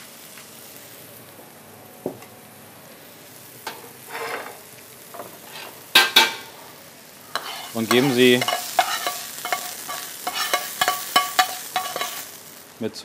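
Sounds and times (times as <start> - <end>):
mushrooms sizzling in oil: 0.0 - 13.0.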